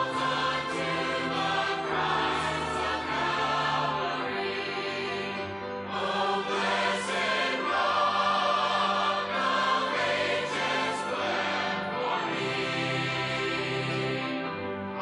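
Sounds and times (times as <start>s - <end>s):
choir singing gospel song: 0.0s - 14.8s
music accompaniment: 0.0s - 15.0s.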